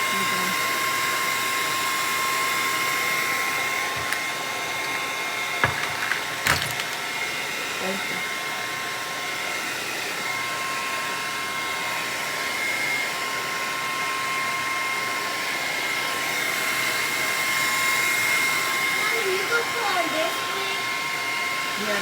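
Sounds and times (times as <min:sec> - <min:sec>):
blow dryer running: 0:00.0 - 0:22.0.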